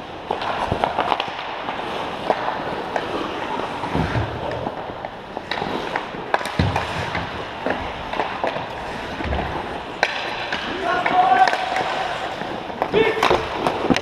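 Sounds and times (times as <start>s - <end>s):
hockey sticks and puck clacking: 0.0s - 14.0s
skates scraping on ice: 0.0s - 14.0s.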